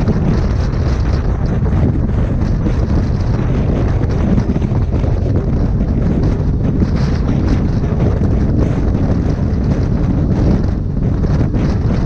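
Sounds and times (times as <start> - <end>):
motorcycle ride rumble: 0.0 - 12.0
wind buffeting microphone: 0.0 - 12.0.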